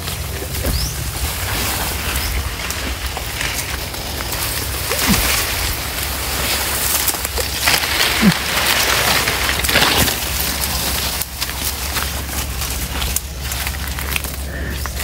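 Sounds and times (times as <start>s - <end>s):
grass rustling as someone walks: 0.0s - 15.0s.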